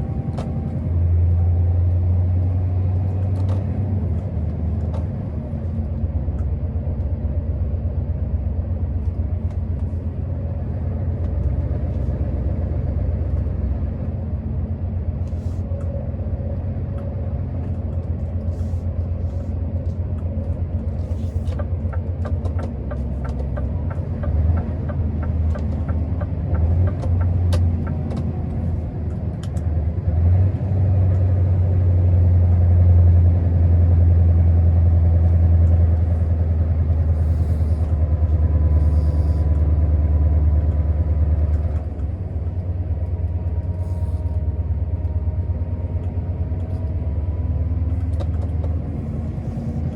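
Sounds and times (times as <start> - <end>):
diesel truck engine drone: 0.0 - 49.9.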